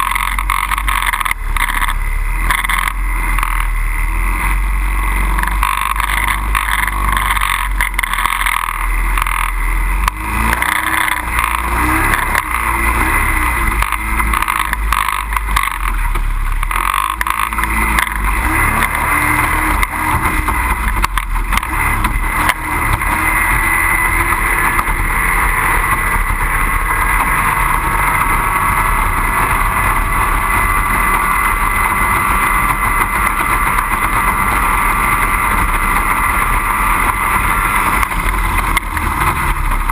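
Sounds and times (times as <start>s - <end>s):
outboard boat engines whining: 0.0s - 39.9s.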